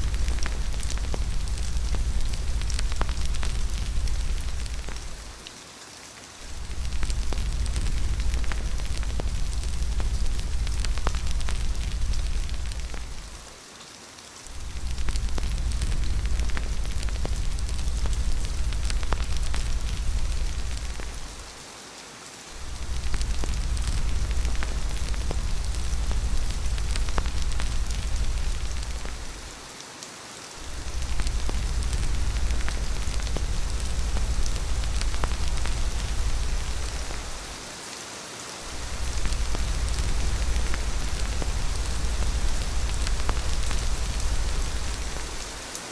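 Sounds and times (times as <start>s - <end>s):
deep low rumble: 0.0s - 5.4s, 6.4s - 13.5s, 14.5s - 21.5s, 22.6s - 29.6s, 30.6s - 37.6s, 38.7s - 45.6s
rain hissing: 0.0s - 45.9s.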